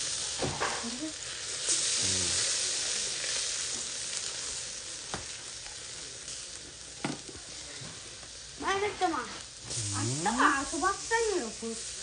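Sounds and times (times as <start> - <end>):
chicken wings sizzling over charcoal: 0.0 - 12.0.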